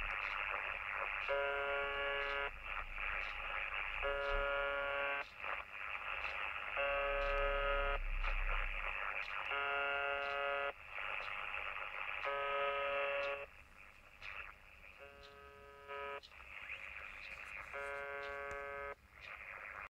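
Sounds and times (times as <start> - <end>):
harsh radio buzz tone: 0.0 - 19.9
radio static hiss: 0.0 - 19.9.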